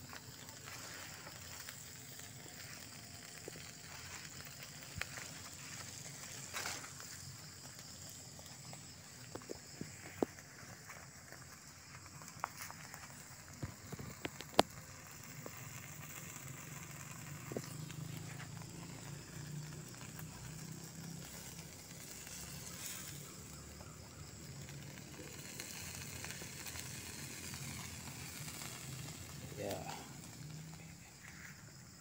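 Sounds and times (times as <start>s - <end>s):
fire popping: 0.0s - 32.0s
low hiss: 0.0s - 32.0s
wood fire crackling: 0.0s - 32.0s.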